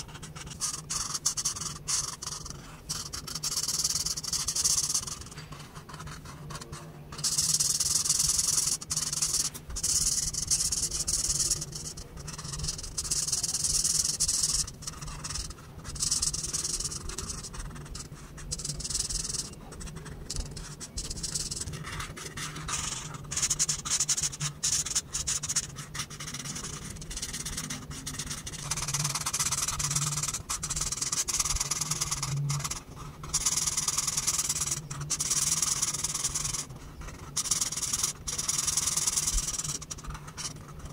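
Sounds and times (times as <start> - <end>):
marker scratching on paper: 0.0 - 40.9.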